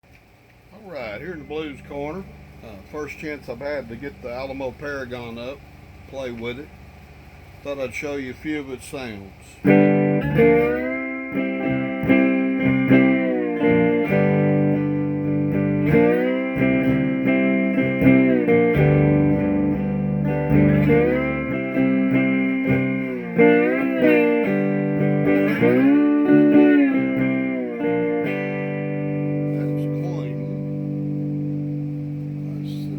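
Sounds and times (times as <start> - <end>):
blues guitar through tube amp: 0.1 - 6.8, 7.6 - 32.9.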